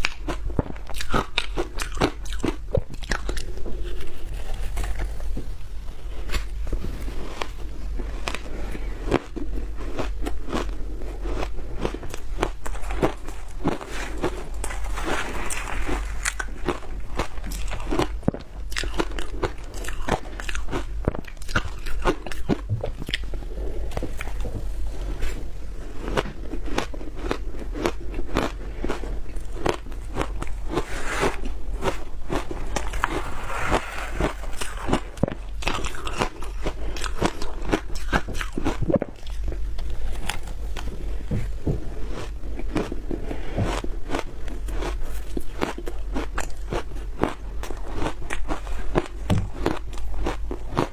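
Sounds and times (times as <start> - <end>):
chewing: 0.0 - 5.4, 6.2 - 50.9
biting and crunching frozen food: 0.0 - 50.9.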